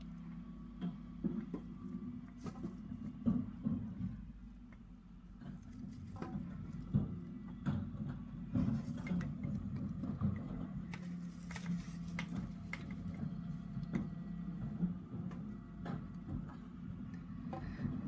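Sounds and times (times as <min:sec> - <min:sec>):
muffled truck engine rumble: 0:00.0 - 0:18.0.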